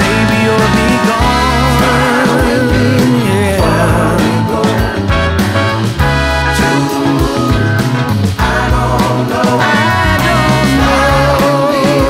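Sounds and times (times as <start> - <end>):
upbeat song with steady beat: 0.0 - 12.0.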